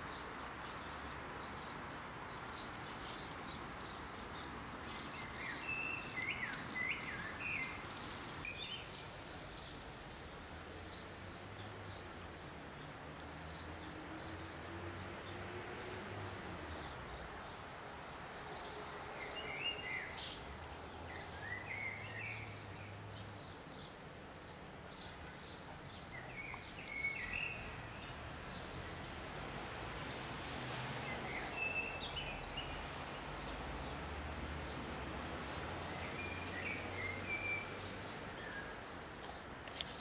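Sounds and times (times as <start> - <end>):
outdoor background noise: 0.0 - 40.0.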